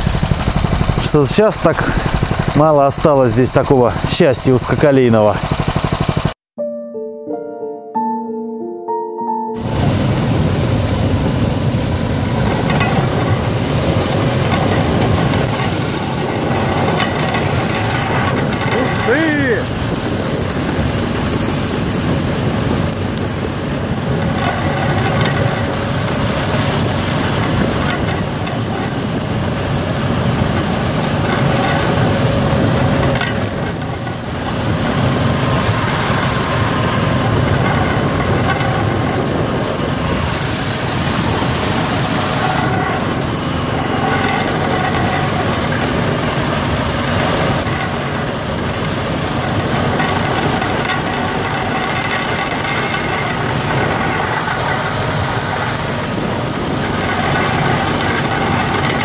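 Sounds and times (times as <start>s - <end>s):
rail vehicle engine running: 0.0s - 6.4s, 9.6s - 59.0s
wheels rolling on rails: 0.0s - 6.4s, 9.7s - 59.0s.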